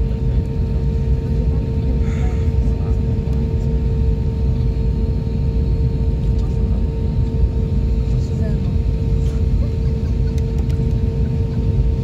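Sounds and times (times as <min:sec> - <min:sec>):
jet engines rumbling: 0:00.0 - 0:12.0
steady cabin hum: 0:00.0 - 0:12.0.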